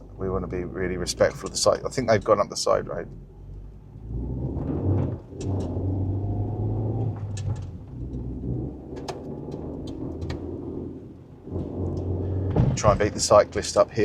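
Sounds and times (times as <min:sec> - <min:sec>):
car engine accelerating: 0:00.0 - 0:14.0
road rumble: 0:00.0 - 0:14.0.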